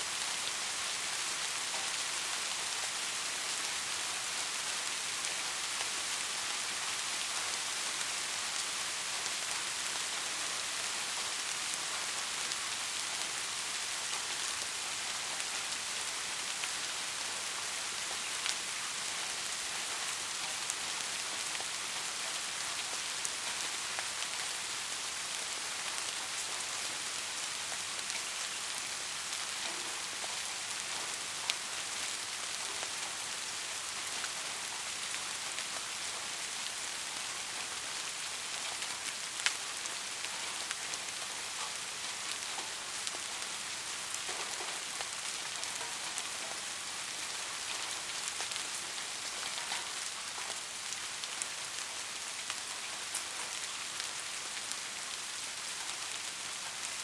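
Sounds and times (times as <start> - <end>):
rain on a roof: 0.0 - 57.0.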